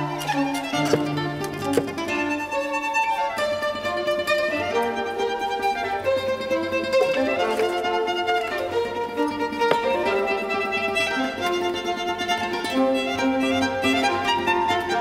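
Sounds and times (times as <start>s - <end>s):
plucked string accompaniment: 0.0s - 15.0s
violin melody: 0.0s - 15.0s.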